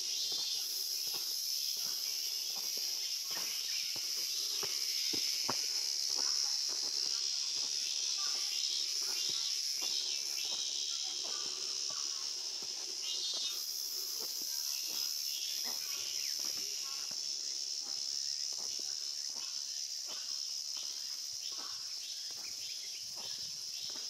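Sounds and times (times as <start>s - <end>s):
footsteps on stone path: 0.0s - 24.0s
insects chorus: 0.0s - 24.0s.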